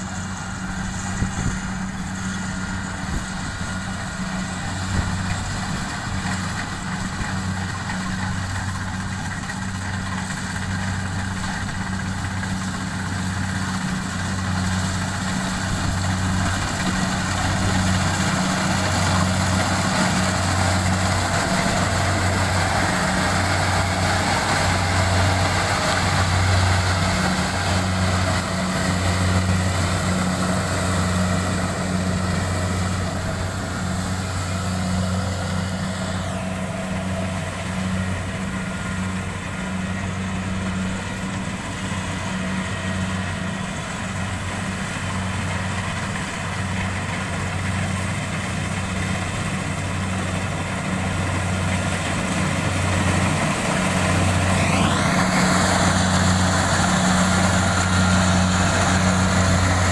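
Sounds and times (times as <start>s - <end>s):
combine harvester engine humming: 0.0s - 59.9s.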